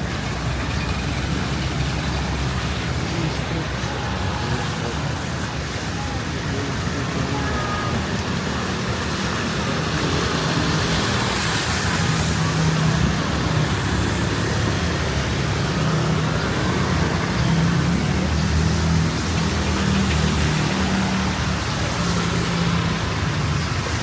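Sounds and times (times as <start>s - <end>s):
vehicle engines humming: 0.0s - 24.0s.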